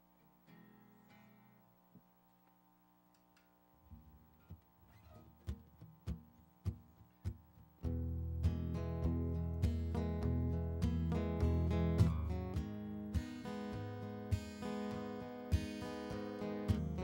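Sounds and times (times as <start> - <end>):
acoustic guitar playing: 0.0 - 1.6, 3.9 - 17.0.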